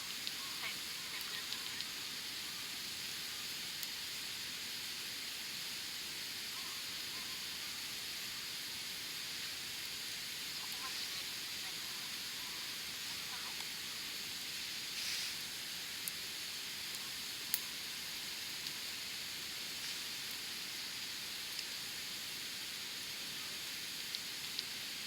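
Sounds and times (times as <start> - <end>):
campfire hissing and crackling: 0.0 - 25.0.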